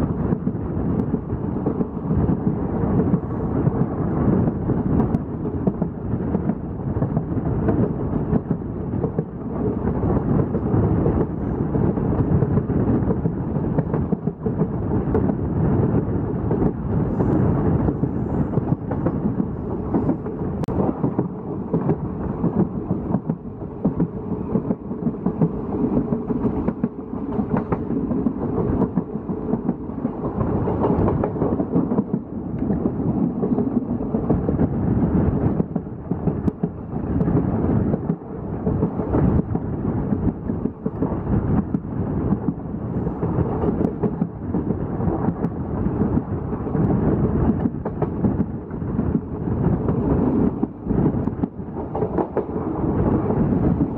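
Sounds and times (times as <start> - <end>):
train rumbling over rails: 0.0 - 53.9.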